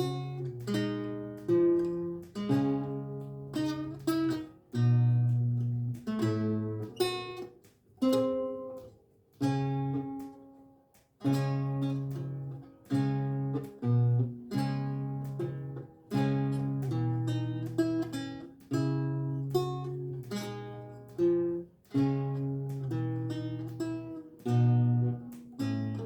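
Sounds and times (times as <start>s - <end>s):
lute plucked slowly: 0.0s - 26.0s.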